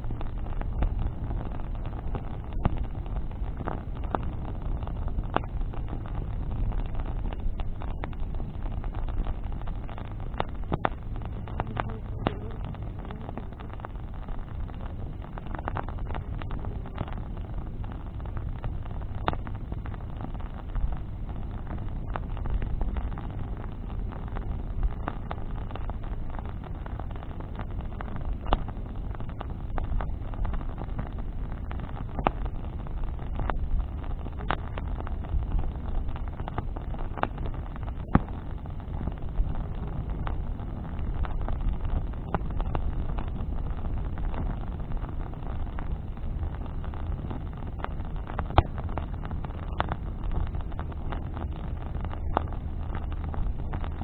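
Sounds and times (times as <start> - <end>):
sharp pops and snaps: 0.0 - 54.0
steady low rumble: 0.0 - 54.0
wood bonfire crackling: 0.0 - 54.0.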